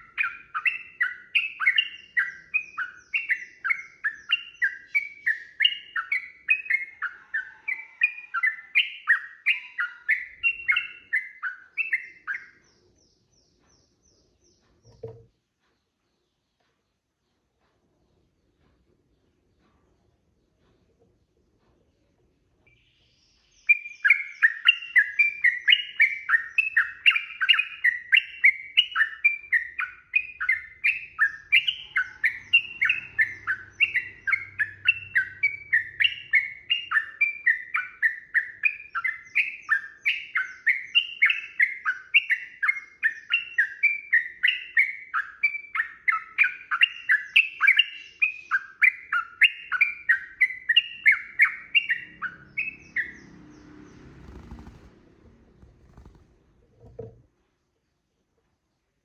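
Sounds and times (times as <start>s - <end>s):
bird chattering song: 0.0s - 57.1s.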